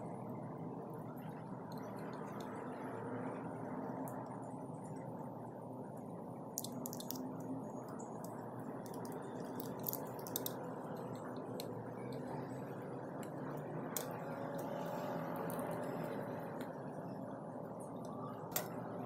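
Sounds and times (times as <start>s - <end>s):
pastry dough squishing: 0.9s - 19.0s.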